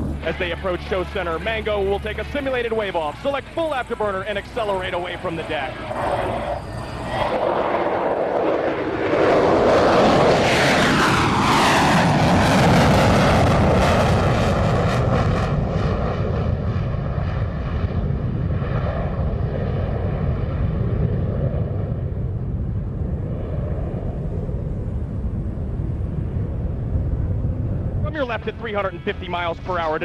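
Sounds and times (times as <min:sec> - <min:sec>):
jet passing in afterburner: 0:00.0 - 0:30.0.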